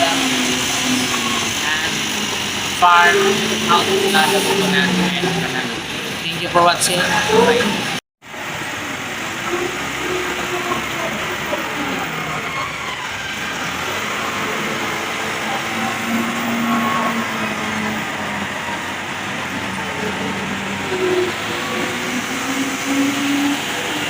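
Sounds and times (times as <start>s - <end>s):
vehicle running steadily: 0.0s - 24.0s.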